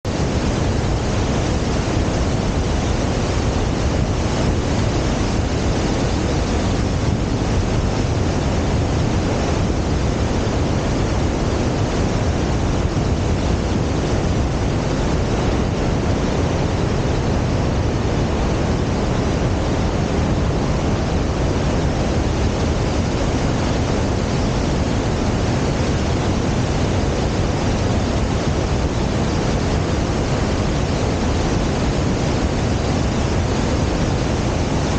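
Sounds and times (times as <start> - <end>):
river rushing: 0.1 - 34.9.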